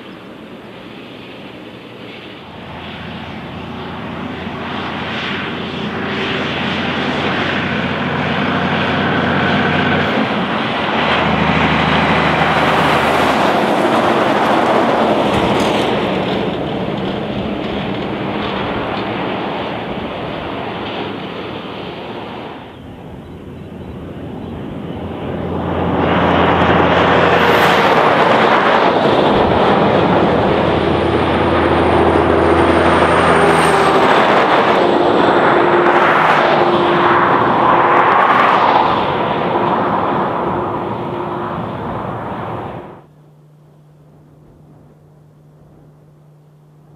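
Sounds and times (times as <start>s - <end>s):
road train passing: 0.0s - 46.9s
distant truck engine with gear changes: 2.4s - 46.9s.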